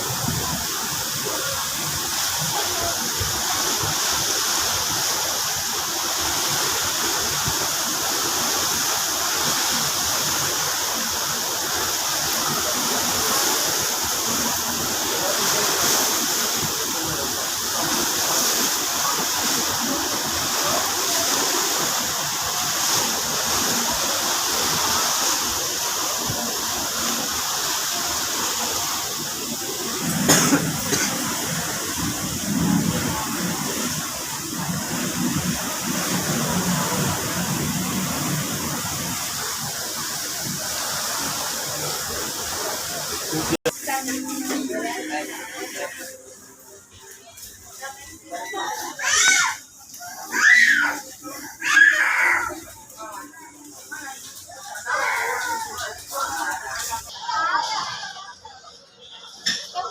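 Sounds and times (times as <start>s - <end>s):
sea water splashing along hull: 0.0s - 58.2s.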